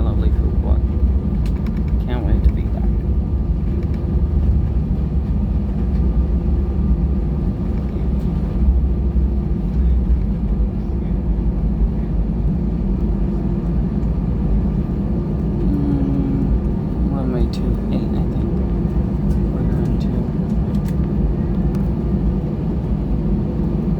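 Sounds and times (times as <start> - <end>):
airplane cabin rumble and hum: 0.0 - 23.9.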